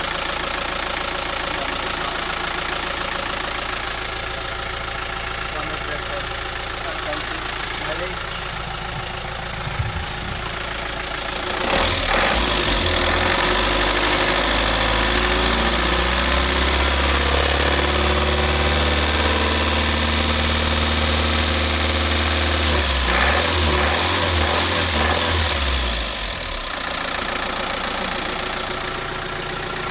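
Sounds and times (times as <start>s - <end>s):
diesel bus engine running: 0.0s - 29.9s.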